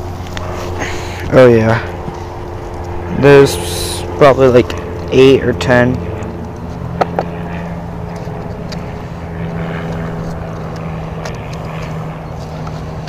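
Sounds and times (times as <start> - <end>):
motor drone: 0.0 - 13.0.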